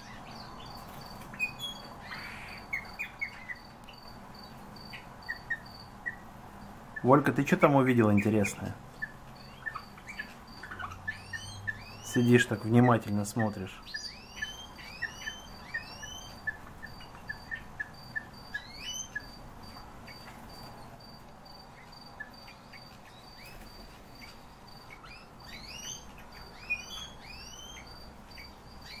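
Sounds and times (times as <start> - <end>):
cage birds calling: 0.0 - 29.0.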